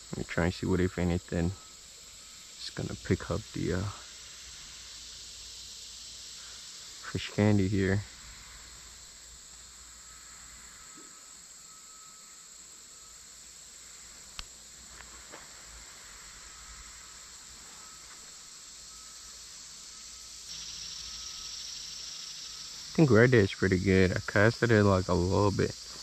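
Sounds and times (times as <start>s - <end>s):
insects shrilling: 0.0s - 26.0s.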